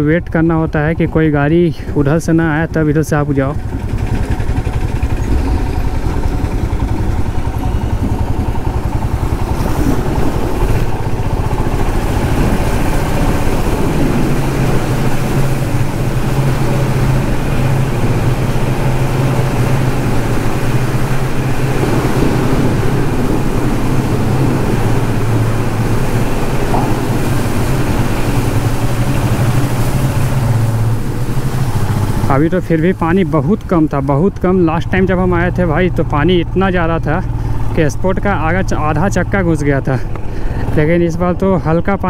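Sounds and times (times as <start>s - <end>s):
motorcycle engine running: 0.0s - 41.0s
low hum: 0.0s - 41.4s.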